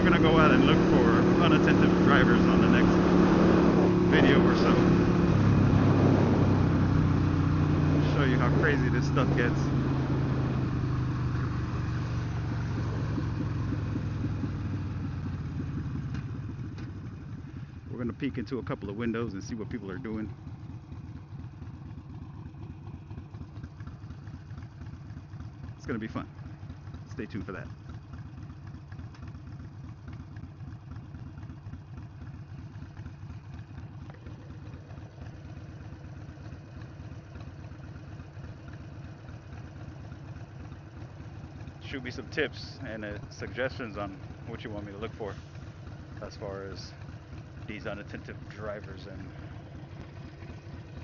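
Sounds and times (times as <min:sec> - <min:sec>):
motorcycle engine idling: 0:00.0 - 0:51.0.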